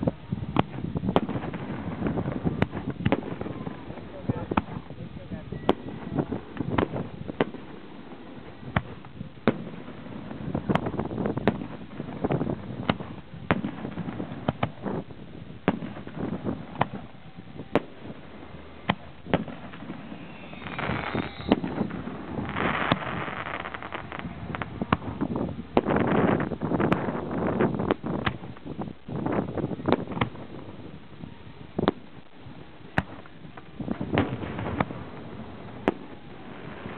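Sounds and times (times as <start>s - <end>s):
fireworks bursting in sharp bangs: 0.0s - 36.9s
fireworks hissing: 0.0s - 36.9s.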